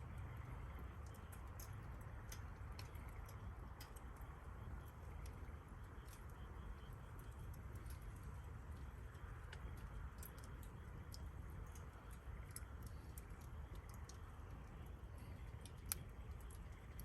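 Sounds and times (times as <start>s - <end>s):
campfire crackling: 0.0s - 17.0s
low steady rumble: 0.0s - 17.0s
fire snap: 0.7s - 17.0s.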